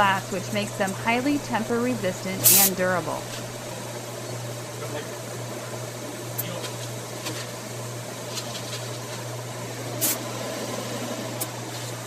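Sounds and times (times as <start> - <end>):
dishwasher humming and hissing: 0.0 - 12.0.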